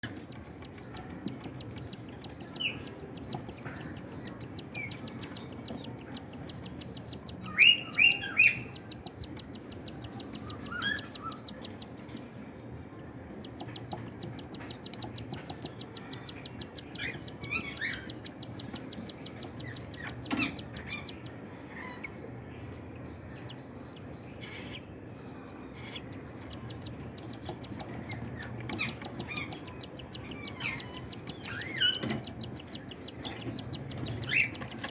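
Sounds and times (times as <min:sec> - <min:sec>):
fast fine ticking: 0:00.0 - 0:12.1, 0:13.4 - 0:21.3, 0:26.5 - 0:34.9
cockatiels chirping: 0:00.0 - 0:12.2, 0:13.3 - 0:22.2, 0:25.8 - 0:34.9.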